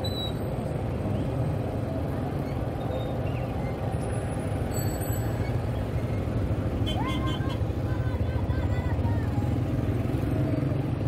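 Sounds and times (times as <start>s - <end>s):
street traffic engines humming: 0.0s - 11.0s.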